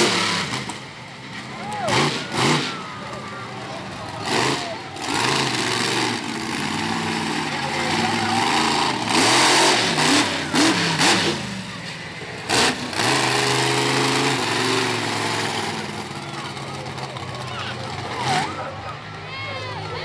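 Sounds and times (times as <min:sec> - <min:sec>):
loud bursts of noise: 0:00.0 - 0:18.6
monster truck engine revving: 0:00.0 - 0:20.0.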